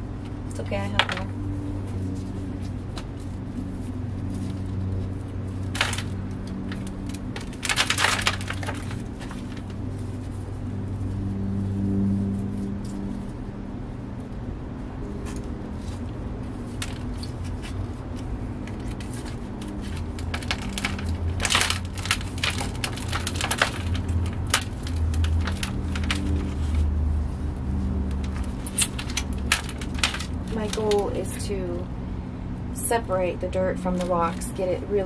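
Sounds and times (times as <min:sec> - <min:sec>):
plants being pulled out: 0:00.2 - 0:14.4, 0:15.0 - 0:31.5.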